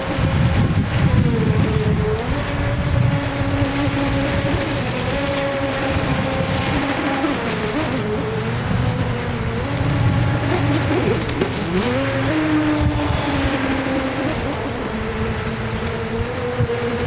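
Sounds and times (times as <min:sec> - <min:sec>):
electric motor whine: 0:00.0 - 0:17.0
low rushing water noise: 0:00.0 - 0:17.0.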